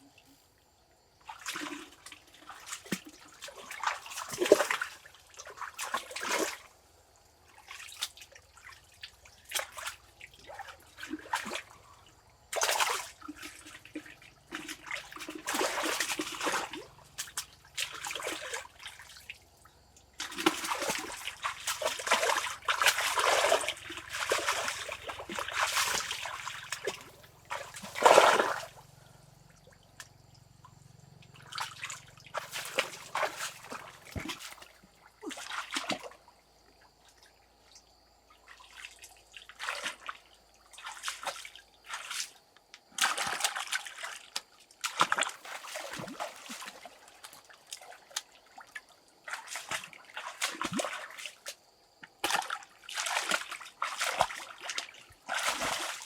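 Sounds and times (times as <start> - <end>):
water splashing and sloshing: 0.0 - 56.0.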